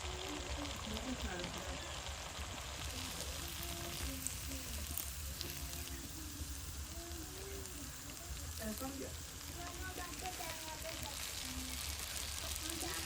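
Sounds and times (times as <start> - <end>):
faint voices: 0.0 - 13.0
steady hiss: 0.0 - 13.0.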